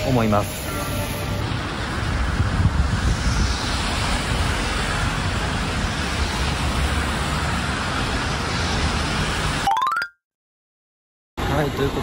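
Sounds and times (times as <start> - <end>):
road traffic rumble: 0.0 - 9.6.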